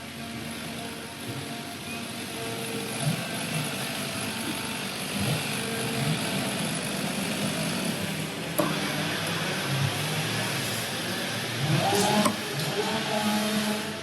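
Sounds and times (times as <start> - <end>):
chainsaws running: 2.0 - 14.0.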